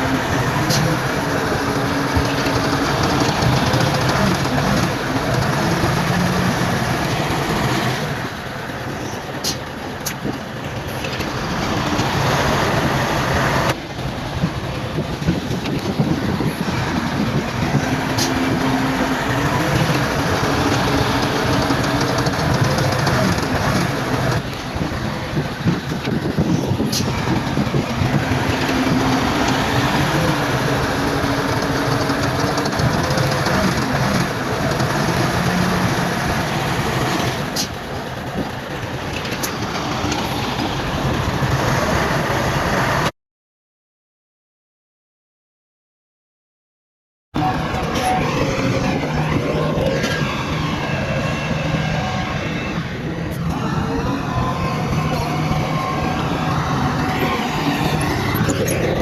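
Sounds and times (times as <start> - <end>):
bulldozer diesel engine under load: 0.0 - 43.1, 47.4 - 59.0.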